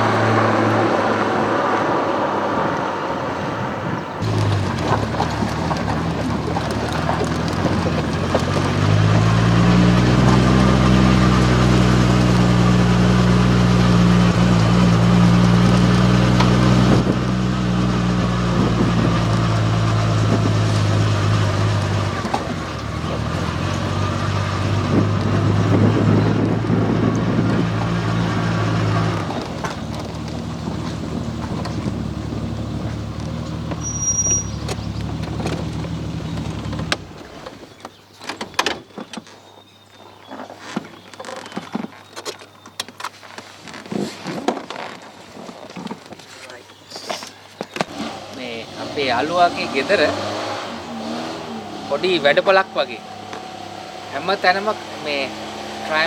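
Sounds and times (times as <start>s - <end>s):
car engine running: 0.0s - 37.6s, 47.9s - 56.0s.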